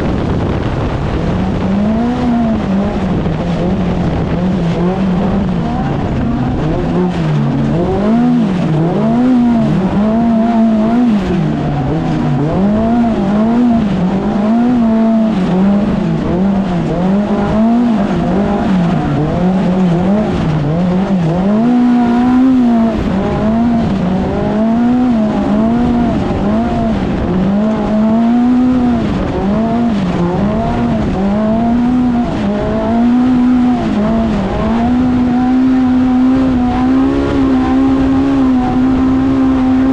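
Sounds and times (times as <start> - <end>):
loud vehicle noise: 0.0 - 39.9
vehicle engine revving: 0.0 - 39.9.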